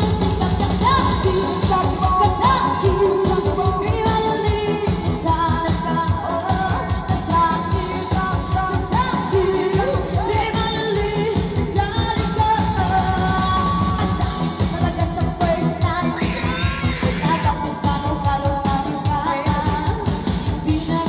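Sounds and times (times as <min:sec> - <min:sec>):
amplified keyboard band backing: 0:00.0 - 0:21.0
woman singing through microphone: 0:00.0 - 0:21.0.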